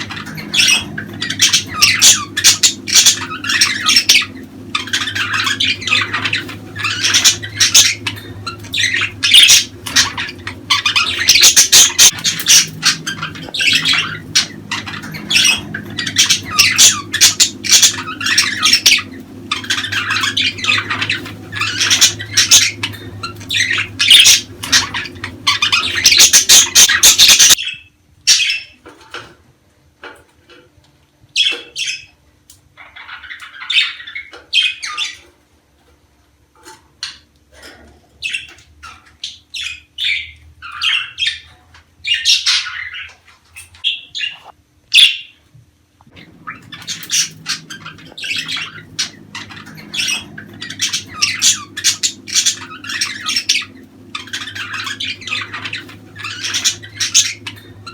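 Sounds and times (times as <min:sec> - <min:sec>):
budgerigars chattering: 0:00.0 - 0:28.8, 0:38.2 - 0:45.3, 0:46.2 - 0:57.9.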